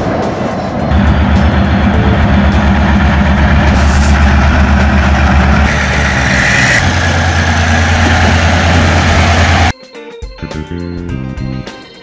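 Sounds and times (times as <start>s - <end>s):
diesel locomotive engine throbbing: 0.0s - 9.7s.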